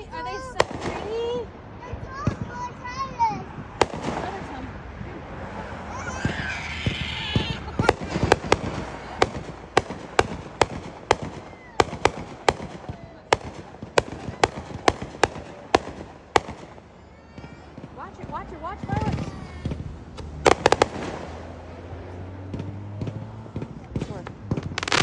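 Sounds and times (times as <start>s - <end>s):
fireworks popping: 0.0s - 25.0s.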